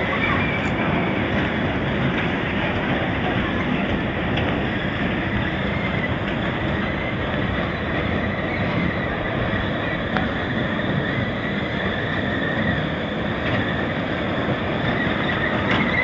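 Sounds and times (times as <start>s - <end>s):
toy ride running noise with whine: 0.0s - 16.0s.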